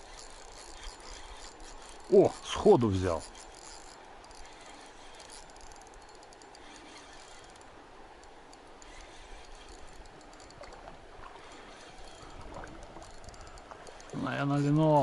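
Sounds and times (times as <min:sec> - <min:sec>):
fishing reel gears ticking: 0:00.0 - 0:15.0.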